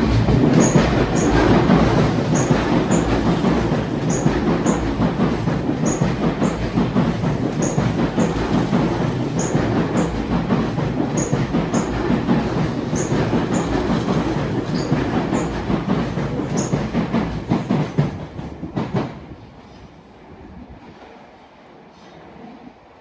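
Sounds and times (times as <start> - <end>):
wheels clacking over rail joints: 0.0 - 19.2
train wheels rumbling on rails: 0.0 - 21.3.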